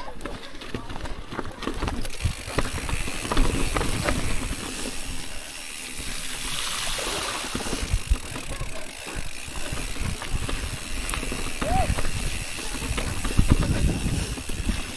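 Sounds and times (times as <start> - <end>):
bike knocks and rattles: 0.0 - 14.9
tyre and wind rush: 1.7 - 14.9.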